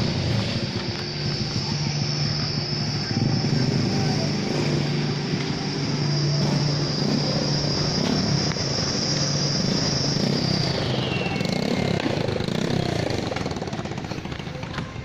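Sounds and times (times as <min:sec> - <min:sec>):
turbo whine: 0:00.0 - 0:14.6
diesel truck engine running: 0:00.0 - 0:15.0.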